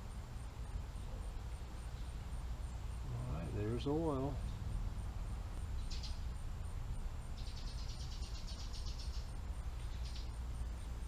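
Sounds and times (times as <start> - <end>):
insect trill: 0.0 - 11.0
low background rumble: 0.0 - 11.0.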